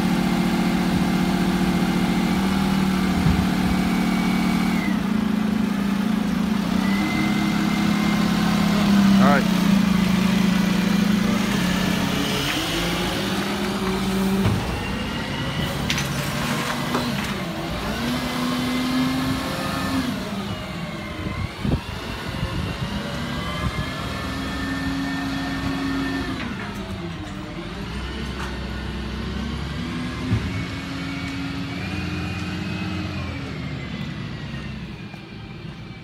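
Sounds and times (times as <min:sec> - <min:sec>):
diesel lorry engine revving: 0:00.0 - 0:36.0.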